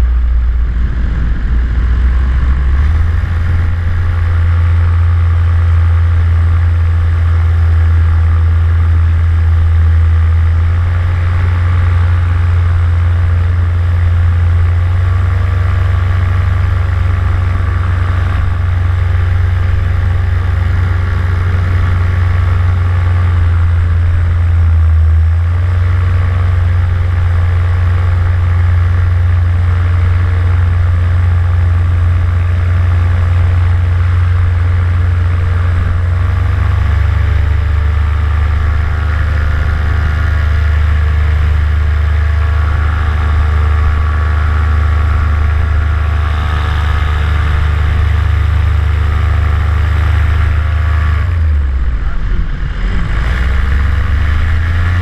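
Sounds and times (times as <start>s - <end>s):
paramotor engine and propeller drone: 0.0s - 55.0s.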